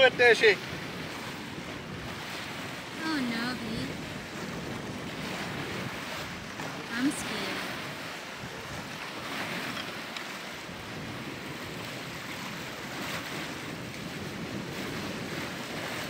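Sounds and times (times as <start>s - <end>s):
water splashing past boat hulls: 0.0s - 16.0s
wind buffeting microphone: 0.0s - 16.0s.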